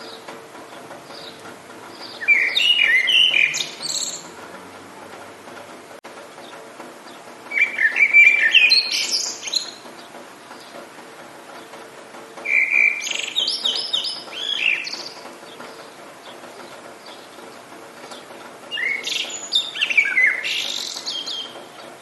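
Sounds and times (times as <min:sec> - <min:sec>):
songbird chirps and trills: 0:00.0 - 0:22.0.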